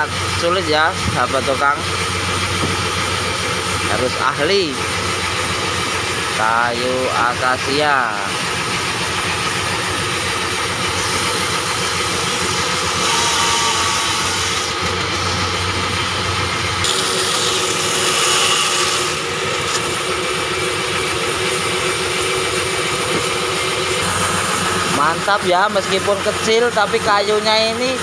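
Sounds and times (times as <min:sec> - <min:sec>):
band saw cutting log: 0:00.0 - 0:28.0.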